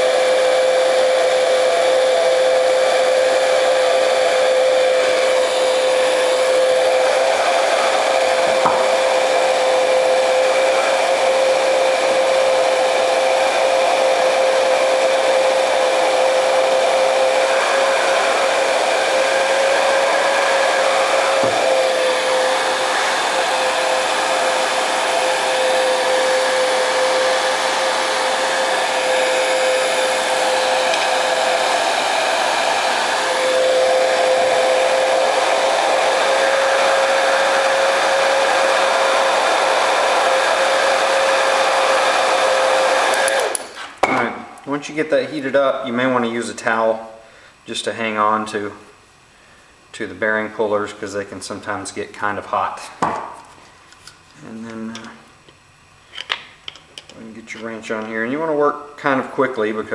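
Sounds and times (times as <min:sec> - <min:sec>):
heat gun blower whine: 0:00.0 - 0:59.9.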